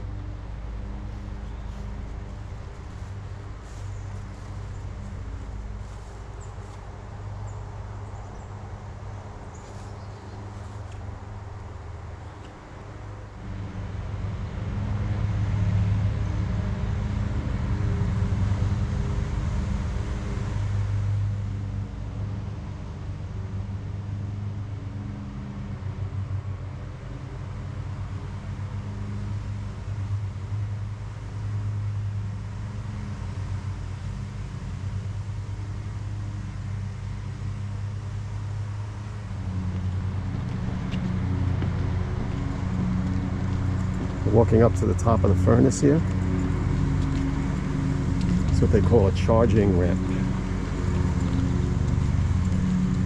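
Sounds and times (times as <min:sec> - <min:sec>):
engine humming: 0:00.0 - 0:53.0.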